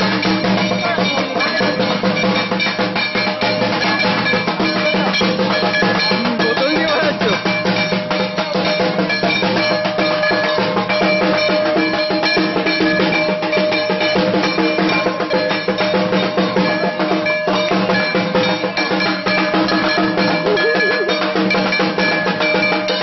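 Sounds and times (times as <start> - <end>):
clanging metal percussion: 0.0 - 23.0
fast drumming: 0.0 - 23.0.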